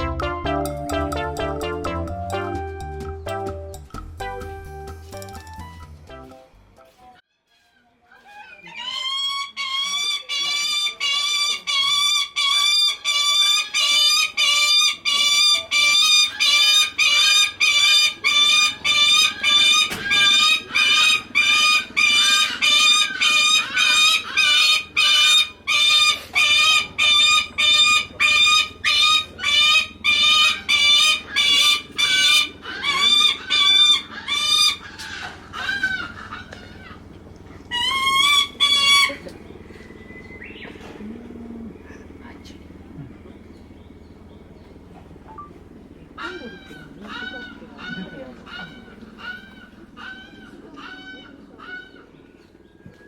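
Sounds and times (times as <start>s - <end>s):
falcon calling: 8.6s - 52.3s.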